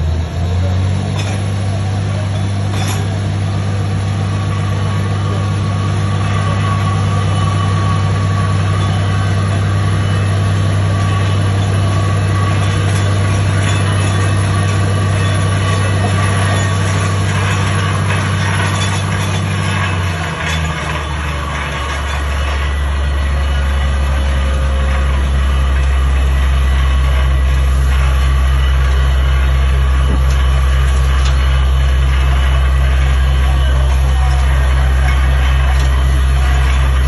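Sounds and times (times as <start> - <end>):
drilling rig engine droning: 0.0 - 37.0.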